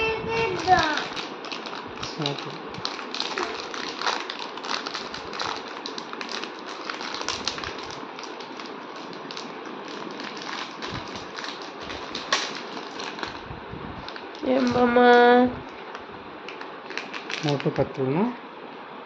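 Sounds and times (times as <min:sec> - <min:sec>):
plastic wrapper crinkling: 0:00.3 - 0:17.8.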